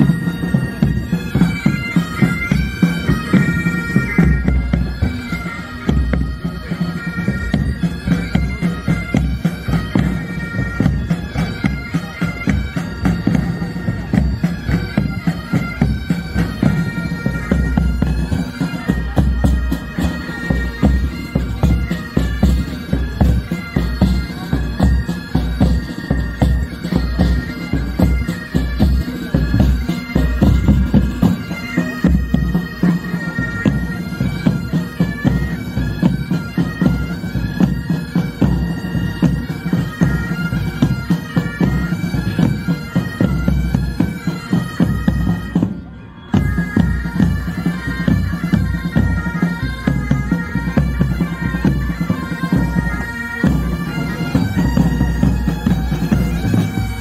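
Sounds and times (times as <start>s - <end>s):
bagpipes melody with drones: 0.0s - 57.0s
marching drums: 0.0s - 57.0s.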